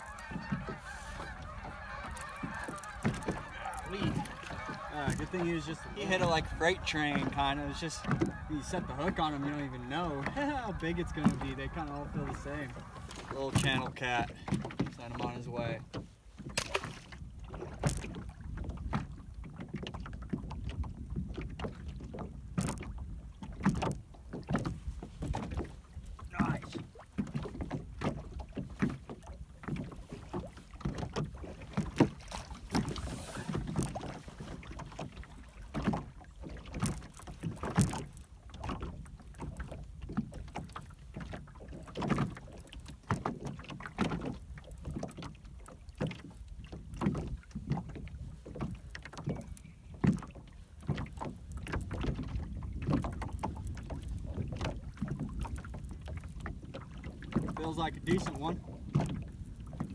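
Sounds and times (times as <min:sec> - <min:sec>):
wind rumbling on microphone: 0:00.0 - 0:09.4, 0:16.9 - 0:40.7, 0:41.6 - 0:59.9
boat knocking: 0:00.0 - 0:59.9
water lapping against boat hull: 0:00.0 - 0:59.9.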